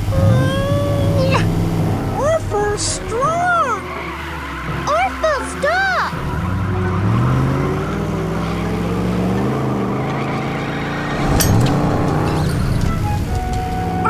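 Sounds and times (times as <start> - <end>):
cartoon truck engine revving: 0.0 - 14.0.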